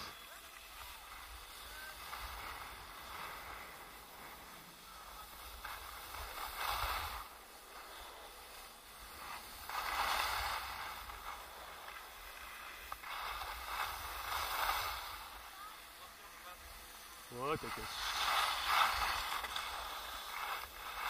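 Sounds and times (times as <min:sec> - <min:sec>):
skis scraping over hard snow: 0:00.0 - 0:21.0.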